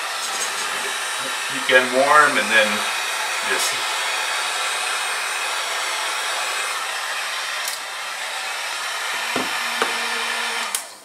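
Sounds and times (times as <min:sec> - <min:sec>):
heat gun blowing: 0:00.0 - 0:11.0.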